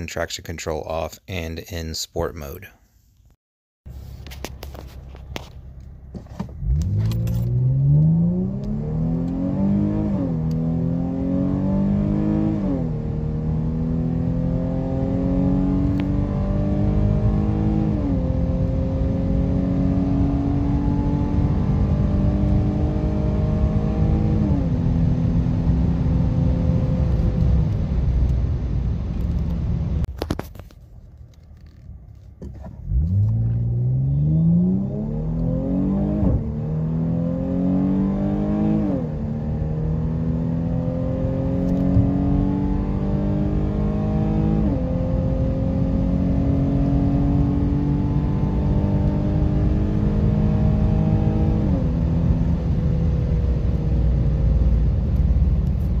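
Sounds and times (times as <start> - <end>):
car engine accelerating through gears: 4.9 - 30.1, 32.5 - 56.0.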